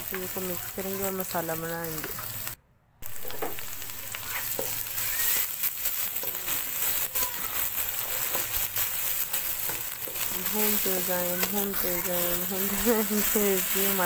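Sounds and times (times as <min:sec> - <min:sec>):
food sizzling in hot oil: 0:00.0 - 0:14.0
spatula stirring in pan: 0:00.0 - 0:14.0.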